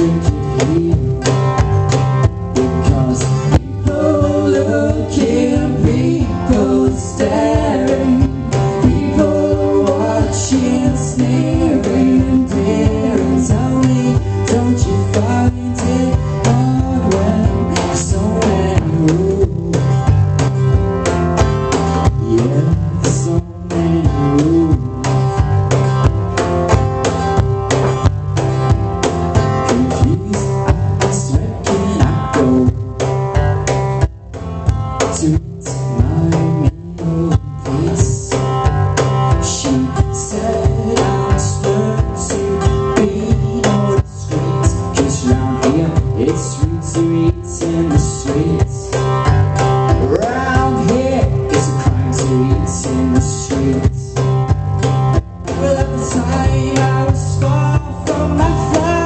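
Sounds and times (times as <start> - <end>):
man singing: 0.0 - 1.7, 2.5 - 20.2, 22.0 - 25.4, 29.6 - 33.1, 35.0 - 49.3, 49.9 - 54.4, 55.5 - 59.0
electric guitar: 0.0 - 59.0
strummed acoustic guitar: 0.0 - 59.0.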